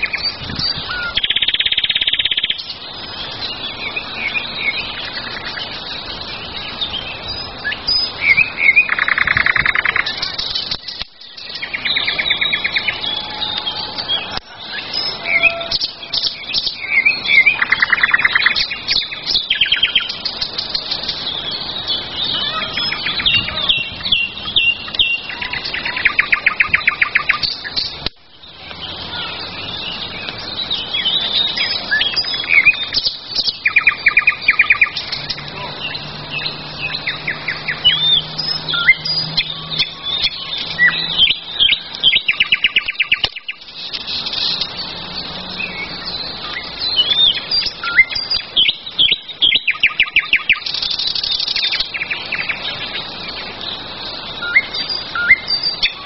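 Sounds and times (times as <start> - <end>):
bird trill: 0.0 - 56.0
songbirds chirping: 0.0 - 56.0.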